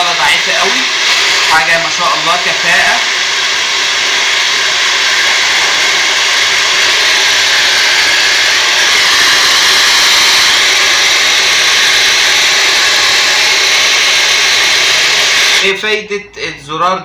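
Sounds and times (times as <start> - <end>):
hair dryer blowing air: 0.0 - 15.8.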